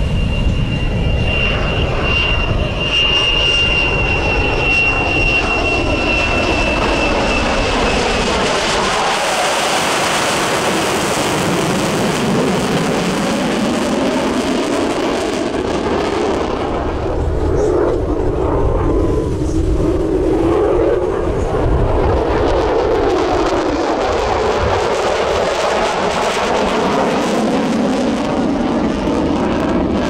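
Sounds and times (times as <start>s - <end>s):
jet flying past: 0.0s - 30.0s.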